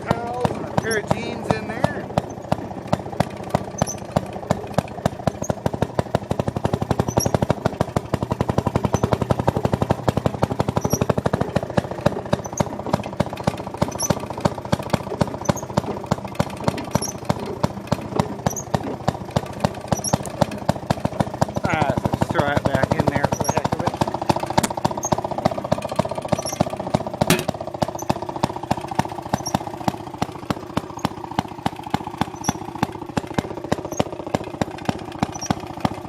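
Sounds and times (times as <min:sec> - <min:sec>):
two-stroke engine exhaust pops: 0:00.0 - 0:36.0.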